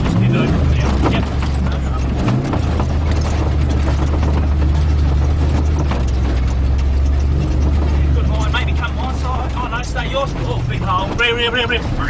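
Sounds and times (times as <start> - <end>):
vehicle body rattling and knocking: 0.0 - 12.0.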